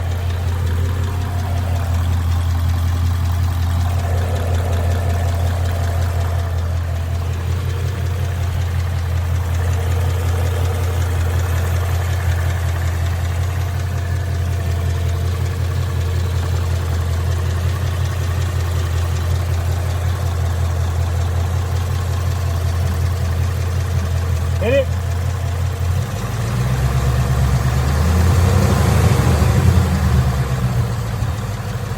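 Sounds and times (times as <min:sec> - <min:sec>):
engine idling: 0:00.0 - 0:31.9
engine knock: 0:00.0 - 0:31.9.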